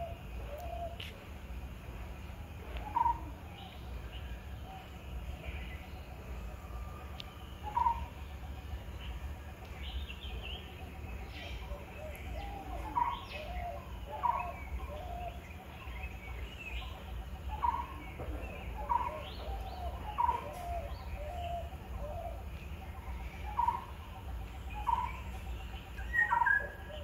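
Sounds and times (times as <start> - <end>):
birds calling: 0.0 - 27.0
steady low rumble: 0.0 - 27.0.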